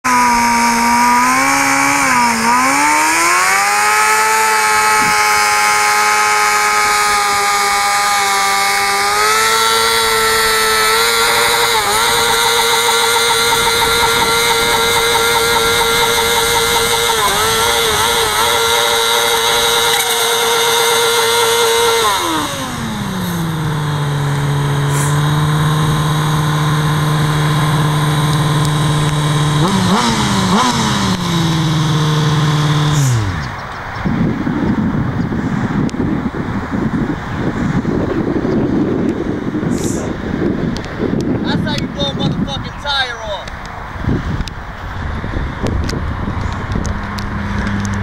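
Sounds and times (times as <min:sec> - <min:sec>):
motorcycle engine revving: 0:00.0 - 0:42.6, 0:43.4 - 0:48.0
tire spinning on pavement: 0:00.0 - 0:42.6, 0:43.4 - 0:48.0.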